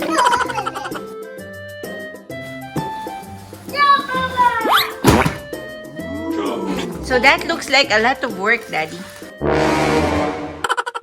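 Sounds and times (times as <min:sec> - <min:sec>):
upbeat background music: 0:00.0 - 0:10.6.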